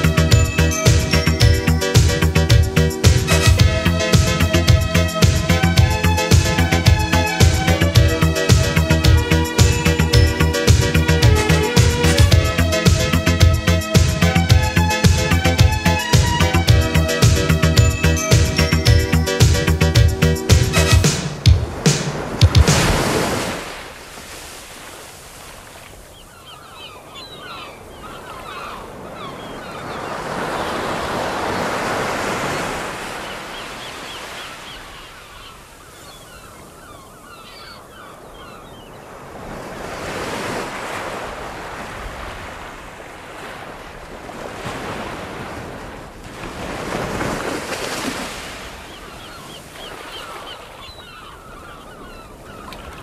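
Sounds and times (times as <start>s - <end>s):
ocean waves washing in: 0.0s - 53.0s.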